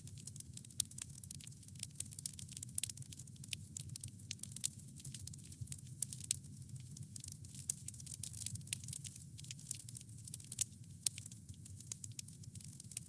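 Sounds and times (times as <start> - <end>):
campfire crackling: 0.0 - 13.0
fire pops and snaps: 0.0 - 13.0.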